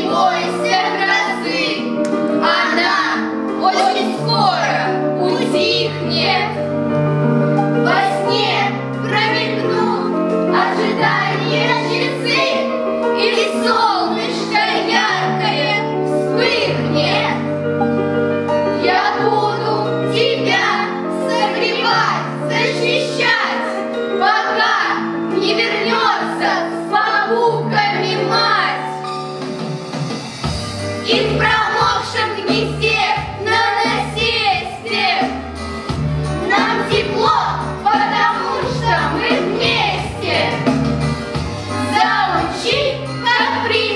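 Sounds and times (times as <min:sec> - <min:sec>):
music with singing: 0:00.0 - 0:43.9.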